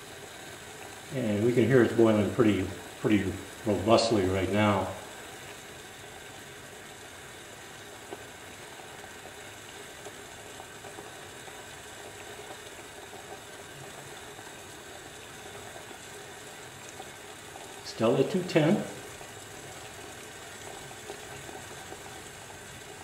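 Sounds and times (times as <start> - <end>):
water boiling in a pot: 0.0 - 23.0.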